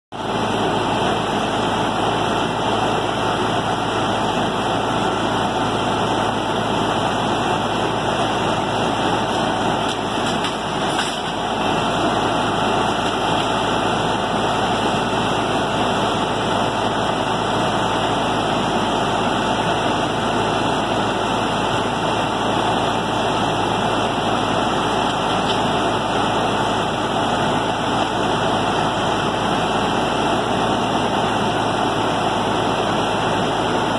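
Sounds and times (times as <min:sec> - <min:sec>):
diesel truck engine running: 0:00.1 - 0:33.9.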